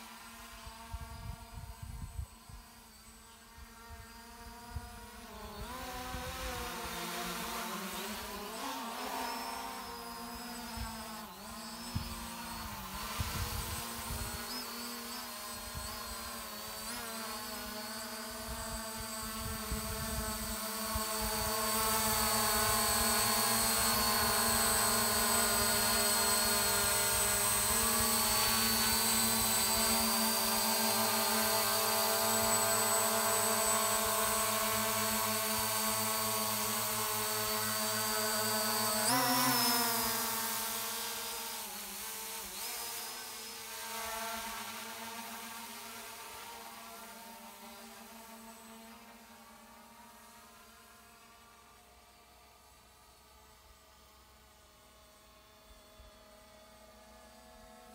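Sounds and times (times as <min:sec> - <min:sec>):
drone propellers whining: 0:00.0 - 0:48.8.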